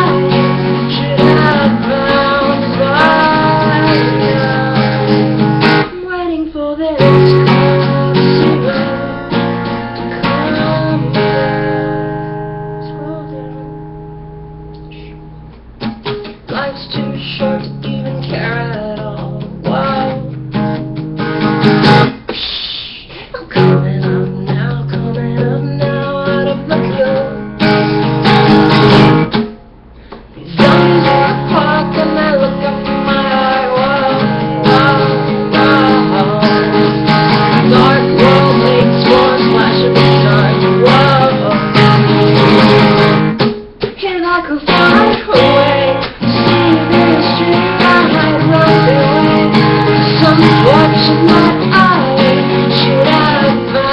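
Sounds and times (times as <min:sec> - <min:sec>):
acoustic guitar strummed and picked: 0:00.0 - 0:53.9.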